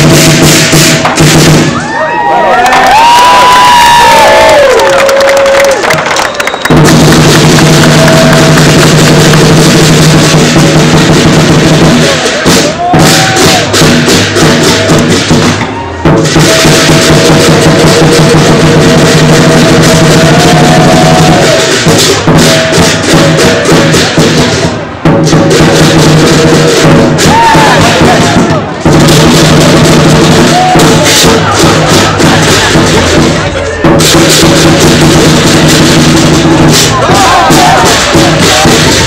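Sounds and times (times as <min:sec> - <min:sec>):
big drum beaten fast: 0:00.0 - 0:06.0, 0:06.6 - 0:39.0.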